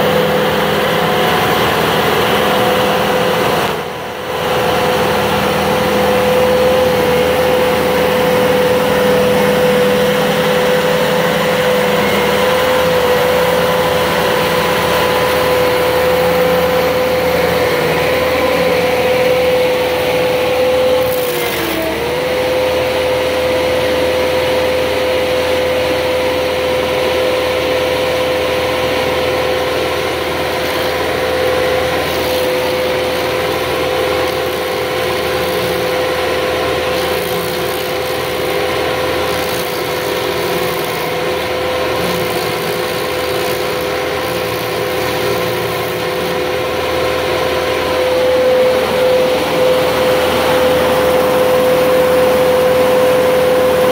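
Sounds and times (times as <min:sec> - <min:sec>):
diesel engine steady tone: 0:00.0 - 0:53.9
stump grinder grinding: 0:00.0 - 0:53.9.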